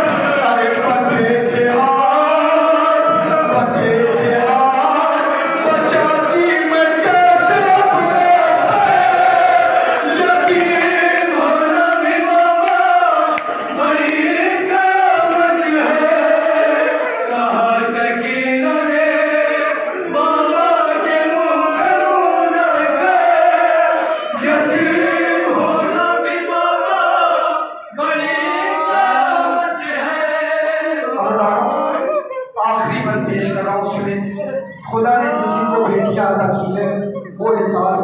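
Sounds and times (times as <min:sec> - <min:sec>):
male chorus chanting in unison: 0:00.0 - 0:37.1
lead reciter's voice: 0:00.0 - 0:38.0.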